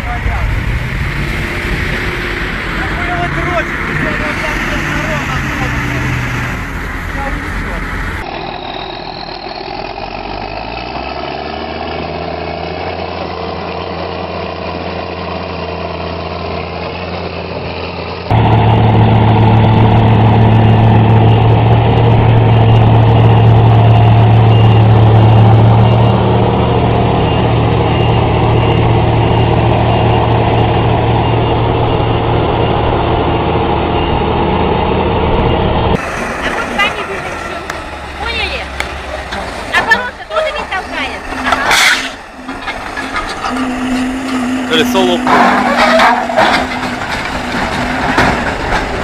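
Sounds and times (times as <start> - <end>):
heavy machinery engine revving: 0.0 - 49.0
loud engine running steadily: 0.0 - 49.0.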